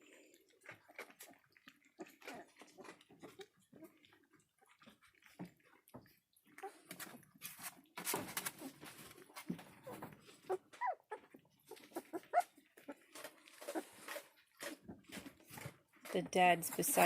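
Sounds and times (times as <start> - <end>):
puppies smacking and lapping: 0.0 - 17.0.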